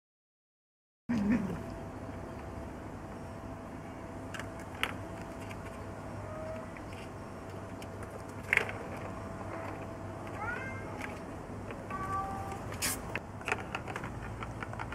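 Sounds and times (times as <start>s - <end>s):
low outdoor hum: 1.1s - 14.9s.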